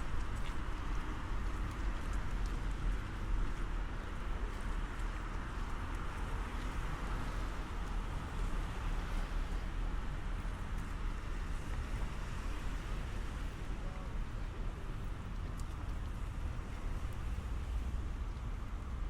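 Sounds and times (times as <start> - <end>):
distant traffic rumble: 0.0 - 19.0
rain tapping on umbrella: 0.0 - 19.0.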